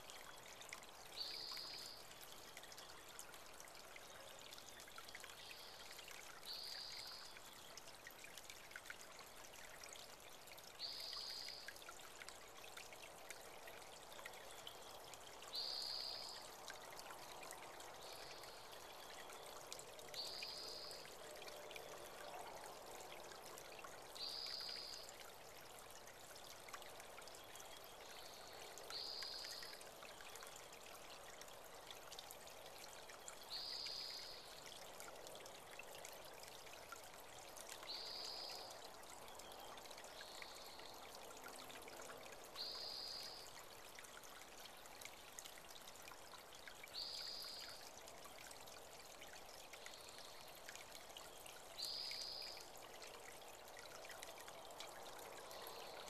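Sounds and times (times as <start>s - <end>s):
creek trickling over rocks: 0.0s - 56.0s.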